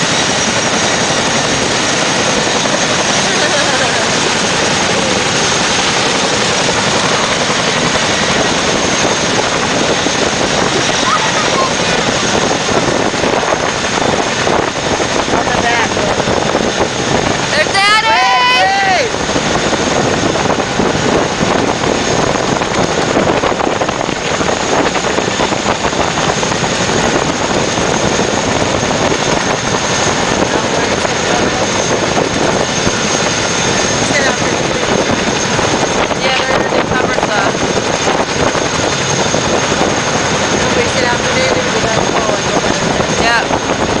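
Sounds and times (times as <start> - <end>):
helicopter turbine and rotor noise: 0.0 - 44.0.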